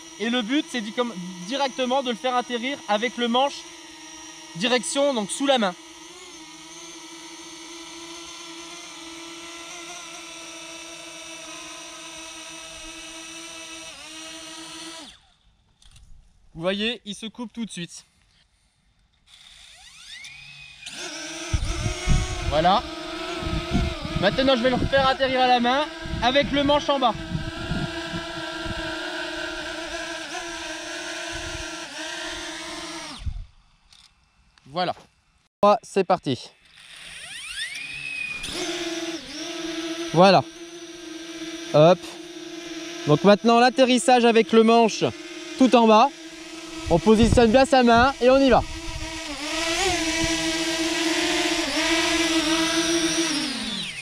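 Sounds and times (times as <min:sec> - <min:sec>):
drone propellers humming: 0:00.0 - 0:15.2, 0:20.9 - 0:33.5, 0:37.0 - 0:54.0.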